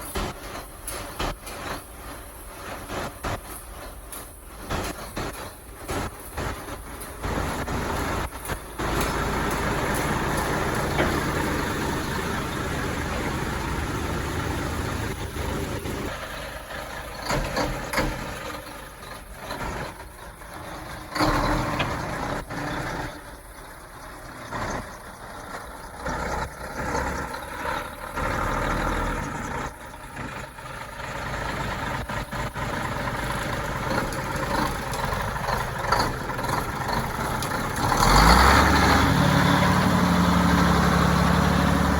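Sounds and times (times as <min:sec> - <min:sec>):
diesel truck engine running: 0:00.0 - 0:41.9.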